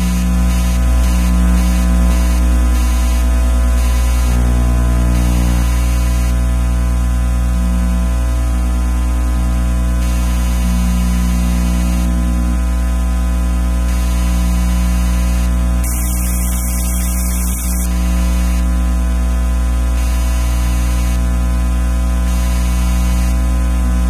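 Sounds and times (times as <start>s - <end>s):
electrical hum and buzz: 0.0s - 24.0s.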